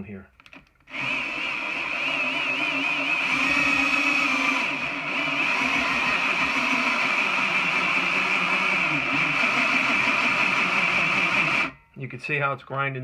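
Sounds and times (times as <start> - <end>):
drill bit grinding metal: 0.9 - 11.8
power drill motor whine: 0.9 - 11.8.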